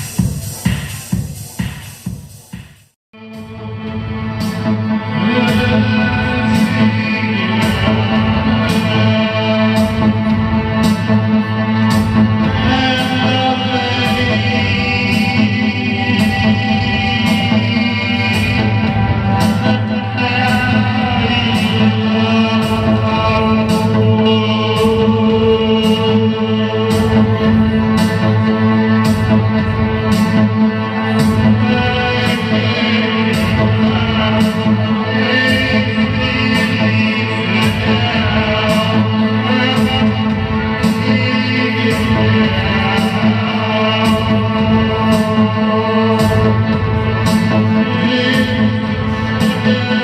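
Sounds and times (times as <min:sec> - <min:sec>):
electric guitar with effects: 0:03.2 - 0:50.0.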